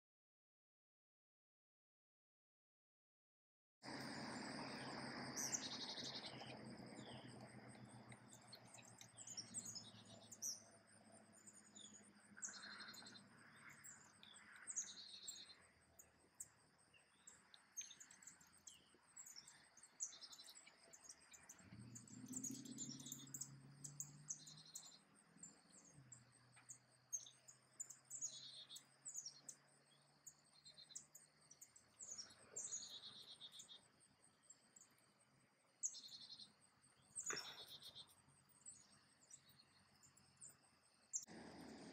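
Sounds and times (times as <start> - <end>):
faint low hum: 3.9 - 41.9
small birds chirping: 3.9 - 41.9.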